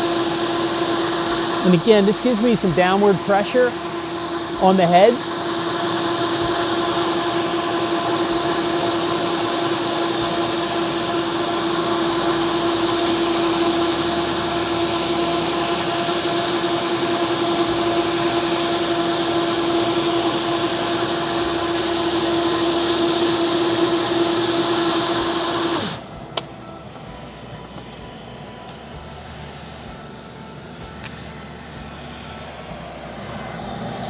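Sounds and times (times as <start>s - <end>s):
floor buffer motor hum: 0.0s - 34.0s.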